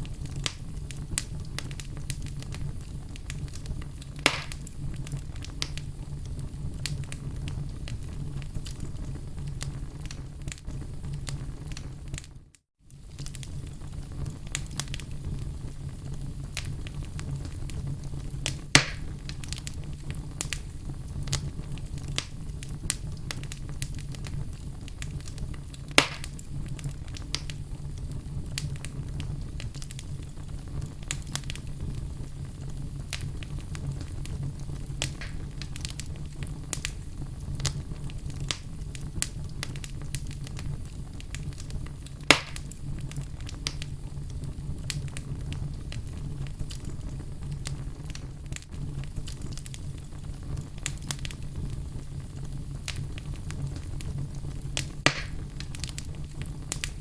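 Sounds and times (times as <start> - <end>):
sharp pops of fire: 0.0 - 57.0
wood fire crackling: 0.0 - 57.0.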